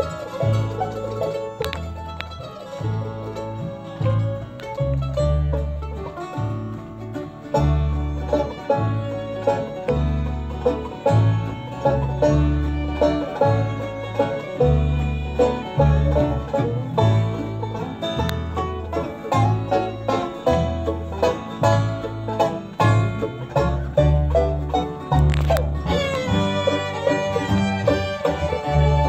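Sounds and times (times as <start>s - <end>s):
acoustic guitar: 0.0s - 29.0s
banjo: 0.0s - 29.0s
fiddles: 0.0s - 29.0s
mandolin: 0.0s - 29.0s
upright bass low notes: 0.0s - 29.0s.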